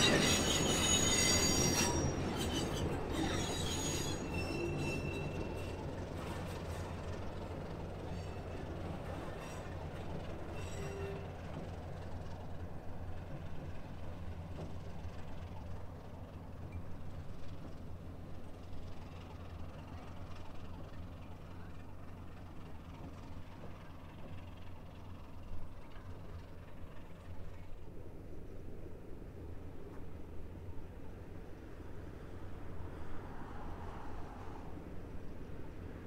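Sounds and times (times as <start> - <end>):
locomotive engine low drone: 0.0 - 36.0.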